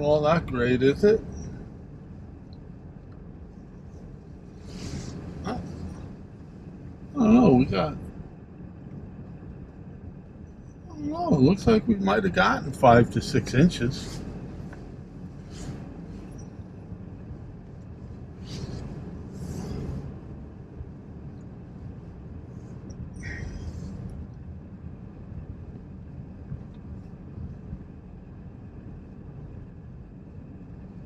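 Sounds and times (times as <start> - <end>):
car engine low rumble: 0.0 - 31.0.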